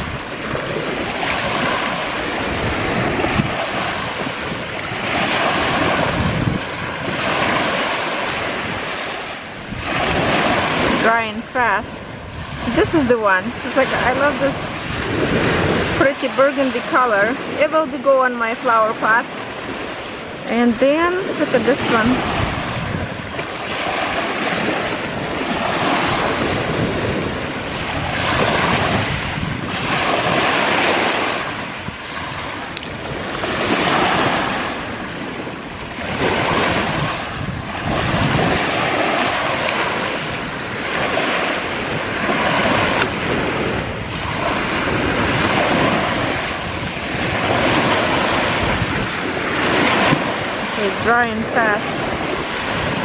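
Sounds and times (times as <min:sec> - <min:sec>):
waves washing on shore: 0:00.0 - 0:53.0
wind on microphone: 0:00.0 - 0:53.0.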